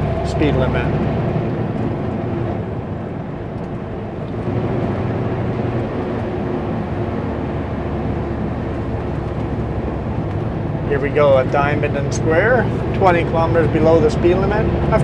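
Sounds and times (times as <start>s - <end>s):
truck diesel engine running: 0.0s - 15.0s
tyre and road noise: 0.0s - 15.0s.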